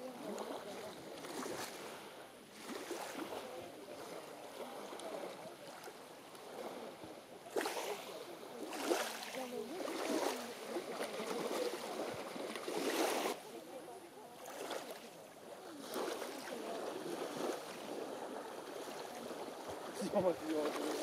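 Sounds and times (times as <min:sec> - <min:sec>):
water lapping: 0:00.0 - 0:21.0
water rushes: 0:00.0 - 0:21.0.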